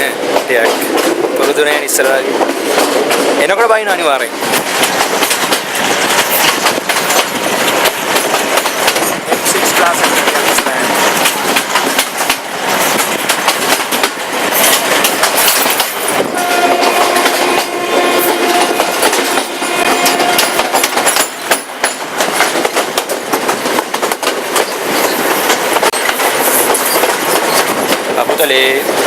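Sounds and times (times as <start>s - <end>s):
train running at speed: 0.0s - 29.0s
wheels clicking over rail joints: 0.0s - 29.0s.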